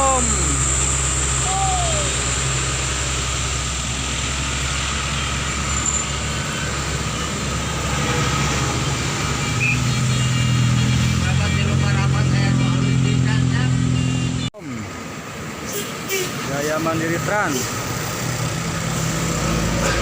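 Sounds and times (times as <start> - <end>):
diesel bus engine droning: 0.0 - 20.0
road noise: 0.0 - 20.0.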